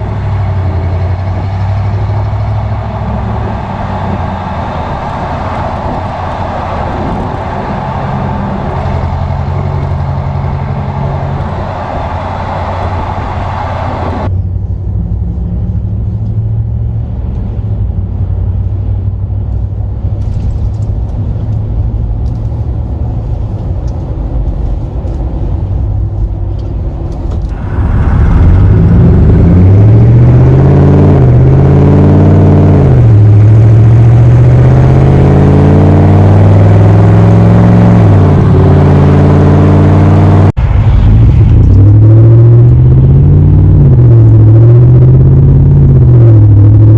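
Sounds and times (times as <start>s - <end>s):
truck engine rumbling and revving: 0.0s - 46.9s.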